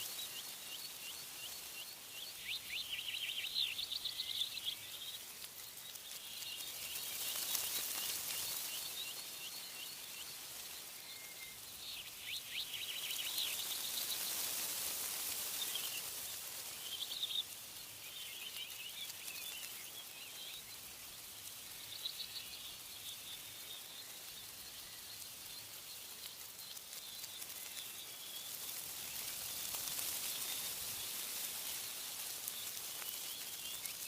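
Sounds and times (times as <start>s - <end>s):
songbirds chirping and trilling: 0.0s - 34.0s
wind in tree leaves: 0.0s - 34.0s.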